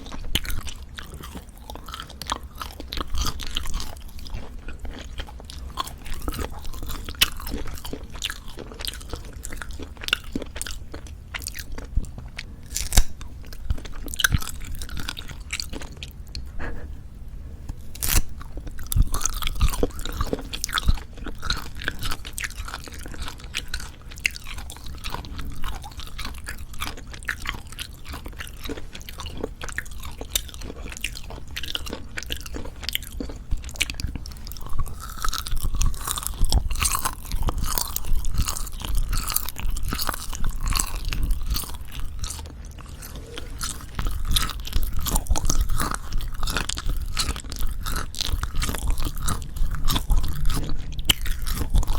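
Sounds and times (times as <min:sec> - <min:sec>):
chewing dried meat: 0:00.0 - 0:16.8, 0:17.7 - 0:51.9.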